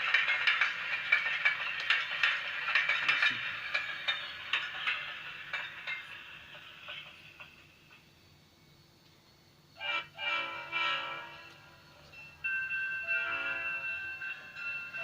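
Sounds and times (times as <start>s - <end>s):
train rattle with clicks: 0.0s - 15.0s.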